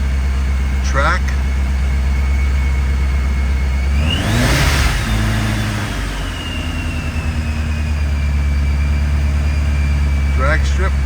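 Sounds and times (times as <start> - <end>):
car engine idling and revving: 0.0 - 11.0
supercharger whine: 0.0 - 11.0.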